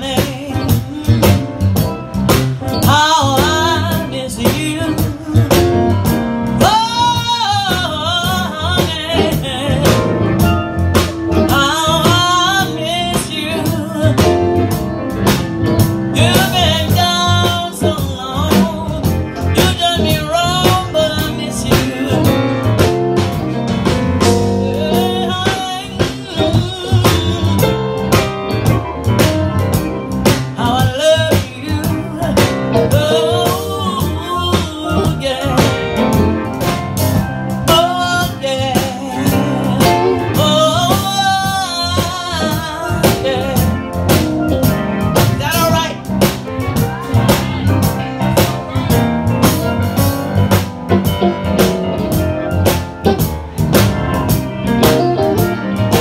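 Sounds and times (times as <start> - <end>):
bending lead melody: 0.0 - 56.0
blues band playing: 0.0 - 56.0
drum kit: 0.0 - 56.0
keyboard: 0.0 - 56.0.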